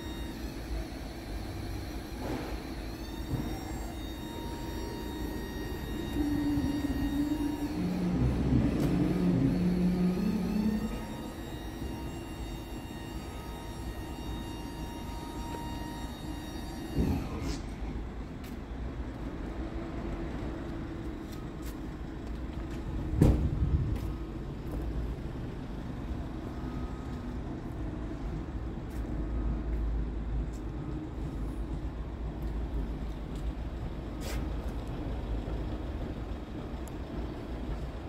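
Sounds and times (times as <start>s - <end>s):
diesel truck engine idling: 0.0s - 38.0s.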